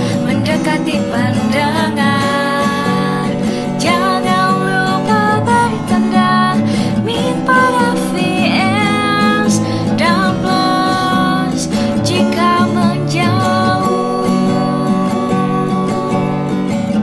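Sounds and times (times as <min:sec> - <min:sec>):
girl singing: 0:00.0 - 0:17.0
instrumental backing music: 0:00.0 - 0:17.0.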